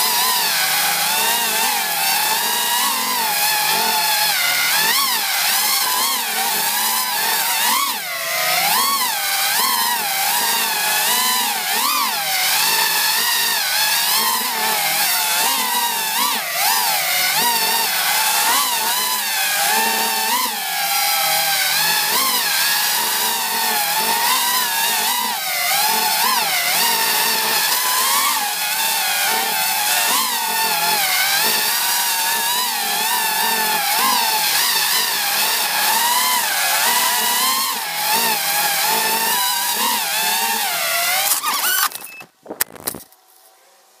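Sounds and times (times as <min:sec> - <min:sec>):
quadcopter motors whining: 0:00.0 - 0:43.2.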